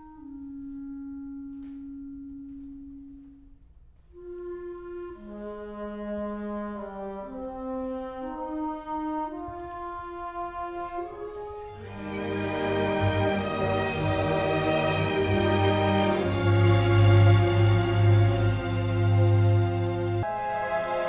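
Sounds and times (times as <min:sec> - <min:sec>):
orchestra playing sustained chords: 0:04.1 - 0:21.0.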